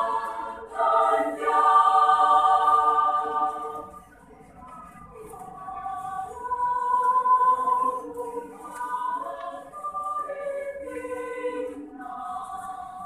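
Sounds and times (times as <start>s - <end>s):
women's choir singing: 0.0s - 13.0s.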